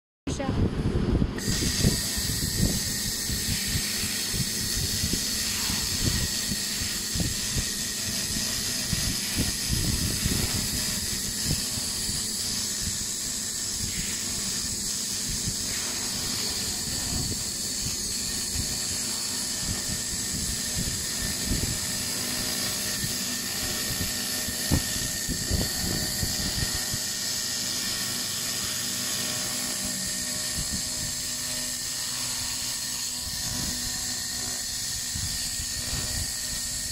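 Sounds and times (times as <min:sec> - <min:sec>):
laser cleaning hiss: 0:01.4 - 0:36.9.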